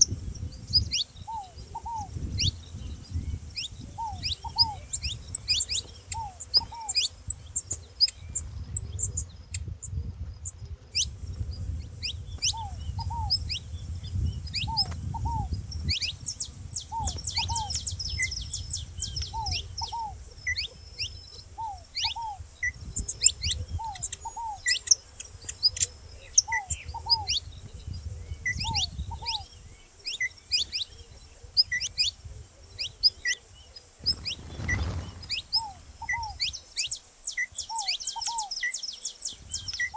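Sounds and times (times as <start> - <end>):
dove soft coos: 0.0 - 2.5, 3.2 - 39.9.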